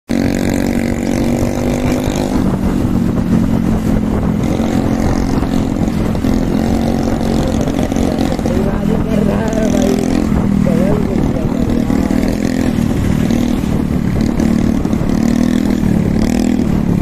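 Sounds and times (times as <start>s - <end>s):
motorcycle engine cruising: 0.1s - 17.0s
wind rumble on microphone: 0.1s - 17.0s.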